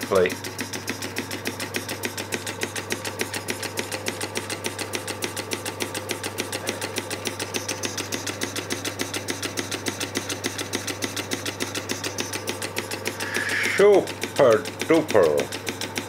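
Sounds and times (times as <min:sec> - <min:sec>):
model engine clicking rapidly: 0:00.0 - 0:16.0.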